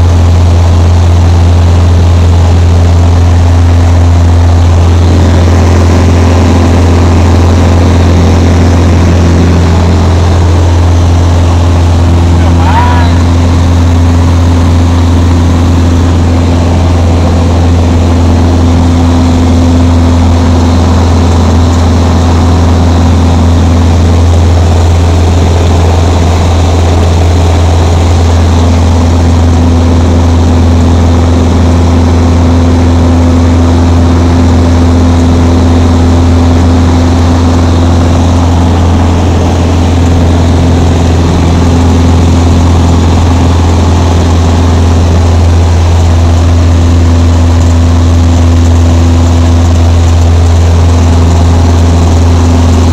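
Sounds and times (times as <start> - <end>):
light aircraft engine droning: 0.0 - 52.9.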